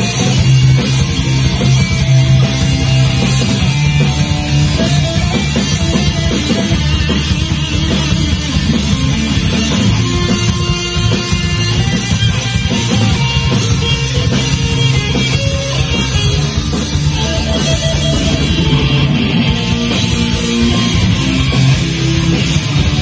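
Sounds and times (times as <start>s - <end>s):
bass and drums: 0.0s - 23.0s
electric guitar riffing: 0.0s - 23.0s.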